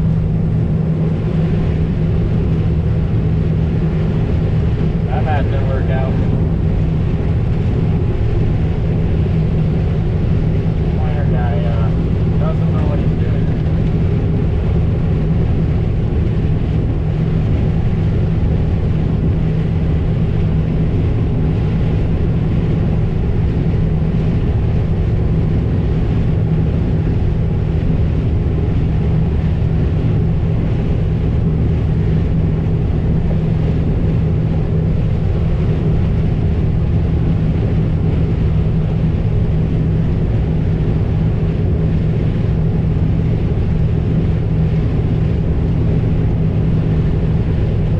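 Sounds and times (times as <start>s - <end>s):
combine harvester humming: 0.0s - 47.9s.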